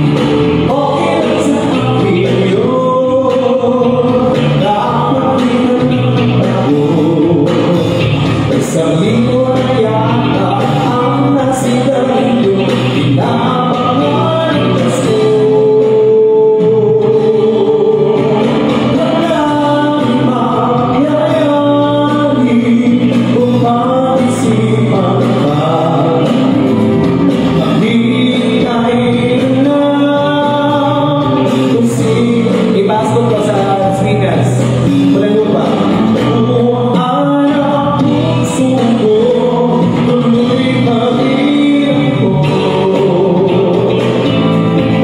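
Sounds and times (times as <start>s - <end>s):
backing music: 0.0s - 45.0s
man singing into a microphone: 0.0s - 45.0s.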